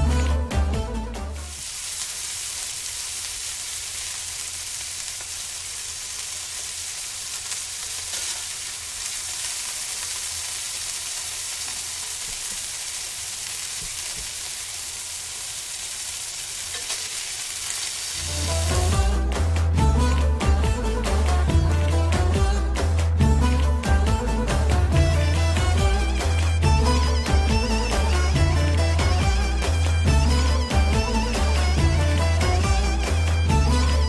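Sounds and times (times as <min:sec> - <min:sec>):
food sizzling in hot fat: 0:01.3 - 0:19.7, 0:22.2 - 0:34.0.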